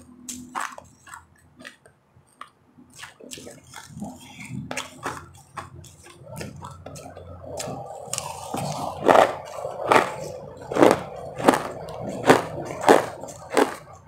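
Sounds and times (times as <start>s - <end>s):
wet squishy mouth sounds: 0.2s - 14.0s
ice crunching in mouth: 0.3s - 1.8s, 2.4s - 14.0s.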